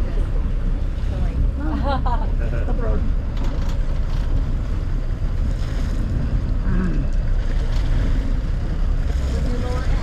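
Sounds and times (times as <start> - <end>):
boat engine rumble: 0.0 - 10.0
sea: 0.0 - 10.0
wind buffeting microphone: 0.0 - 10.0.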